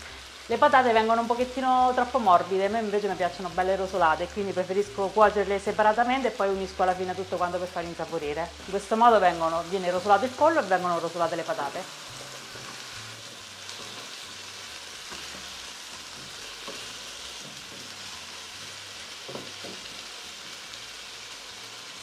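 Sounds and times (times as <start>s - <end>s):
potatoes sizzling in a pan: 0.0s - 22.0s.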